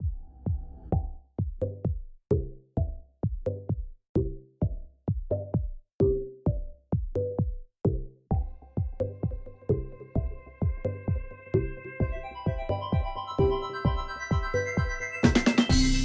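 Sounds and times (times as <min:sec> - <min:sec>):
electronic music with drum beat: 0:00.0 - 0:16.0.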